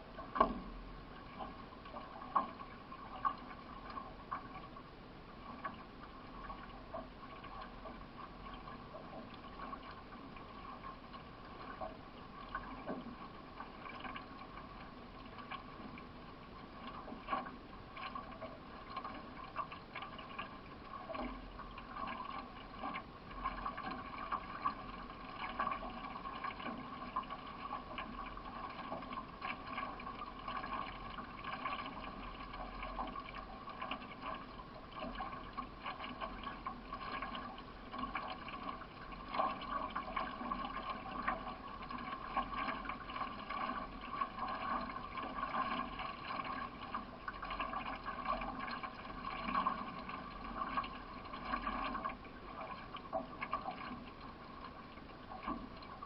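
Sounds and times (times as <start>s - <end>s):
paddle strokes in water: 0.0s - 56.0s
water sloshing and trickling: 0.0s - 56.0s.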